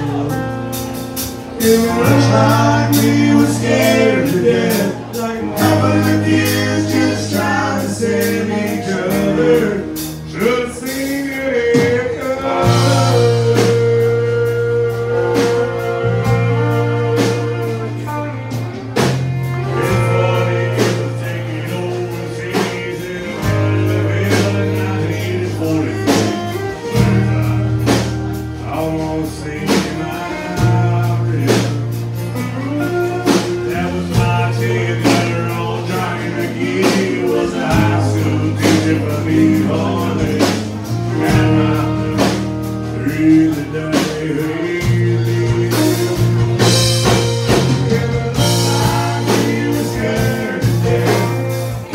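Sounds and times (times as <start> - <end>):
man singing: 0.0 - 18.6, 19.4 - 51.9
bass guitar: 0.0 - 51.9
drums keeping a steady beat: 0.0 - 51.9.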